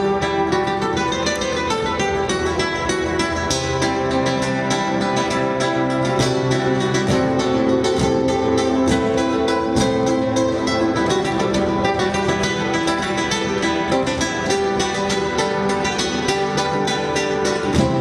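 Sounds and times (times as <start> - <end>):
acoustic guitar plucking and strumming: 0.0 - 18.0.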